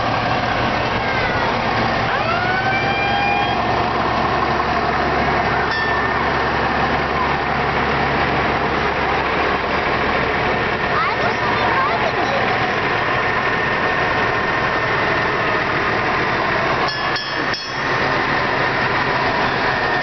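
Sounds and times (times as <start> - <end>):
fire engine diesel engine: 0.0 - 20.0.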